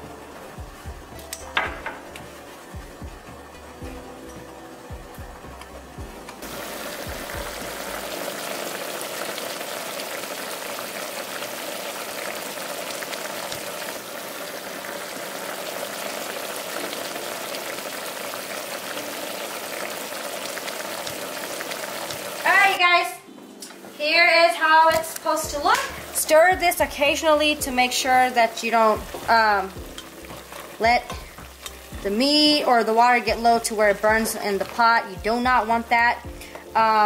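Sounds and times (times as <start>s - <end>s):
food sizzling in a pot: 0.0s - 37.0s.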